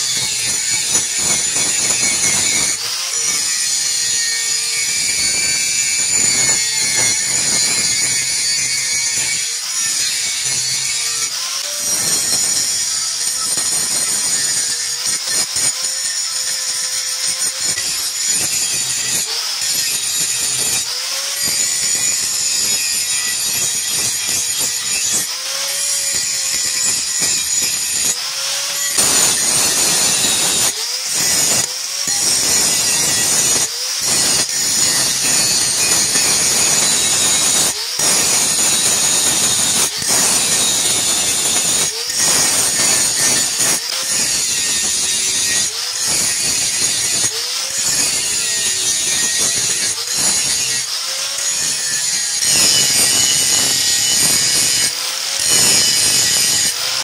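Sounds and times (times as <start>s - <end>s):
power grinder grinding steel: 0.0s - 57.0s.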